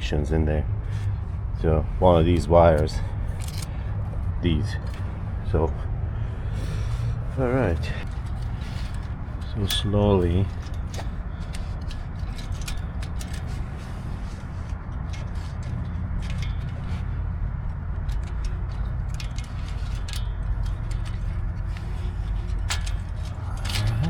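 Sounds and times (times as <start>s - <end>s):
low rumble: 0.0s - 24.0s
wiring connectors clicking and rattling: 1.2s - 5.8s, 7.3s - 24.0s.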